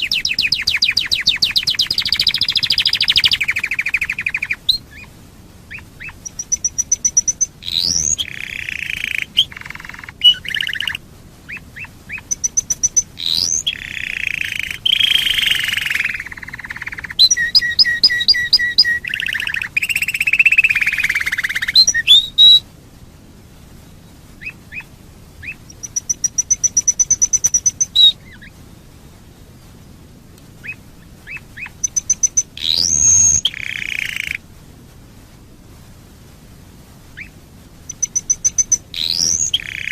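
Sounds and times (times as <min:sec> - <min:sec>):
canary singing trills: 0:00.0 - 0:22.6, 0:24.0 - 0:28.6, 0:30.6 - 0:34.4, 0:37.2 - 0:39.9.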